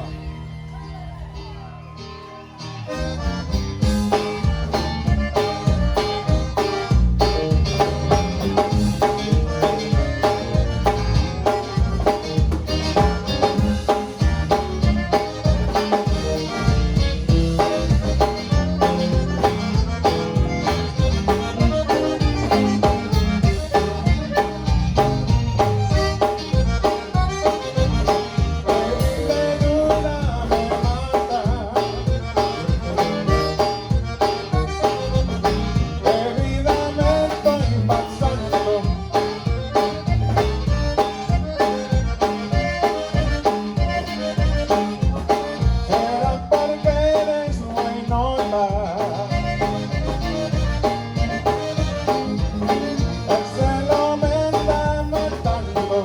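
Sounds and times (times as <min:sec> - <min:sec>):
band playing steady beat: 0:00.0 - 0:56.0
button accordion melody: 0:02.6 - 0:56.0.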